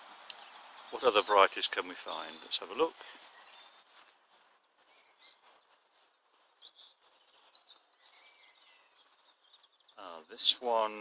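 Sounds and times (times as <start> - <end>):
faint high bird chirps: 0.2 - 10.8.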